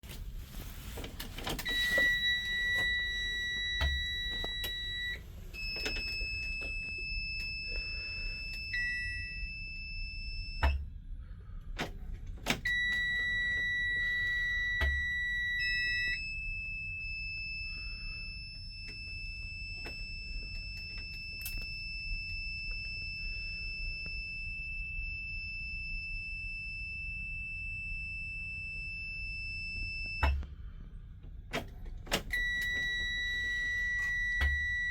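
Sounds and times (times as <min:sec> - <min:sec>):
dashboard warning buzzers: 0:01.5 - 0:11.0, 0:12.5 - 0:34.9.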